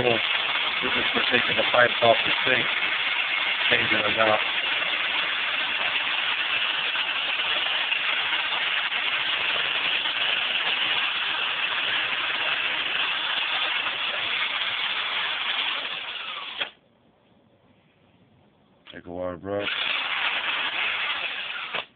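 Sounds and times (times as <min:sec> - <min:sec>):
drill with wire brush grinding: 0:00.0 - 0:16.8, 0:19.6 - 0:21.9.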